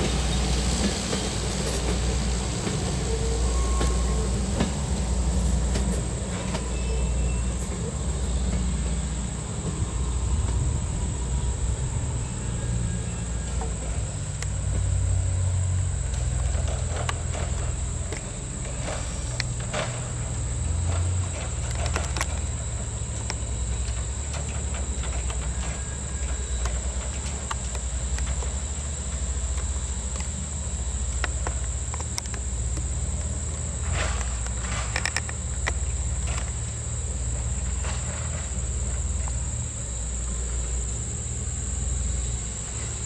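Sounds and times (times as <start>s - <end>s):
wheels clicking on rails: 0.0s - 40.8s
train coaches rumbling on track: 0.0s - 43.0s.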